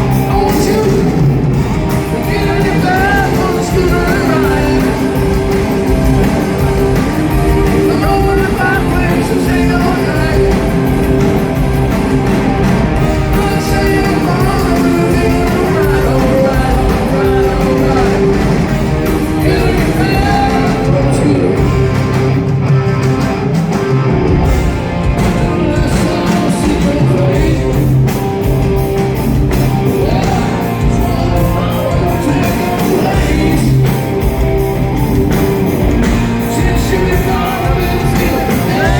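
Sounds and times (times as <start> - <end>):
lead singer vocals: 0.0 - 22.0, 25.1 - 28.4, 29.9 - 34.6, 35.8 - 38.9
live rock band playing: 0.0 - 38.9.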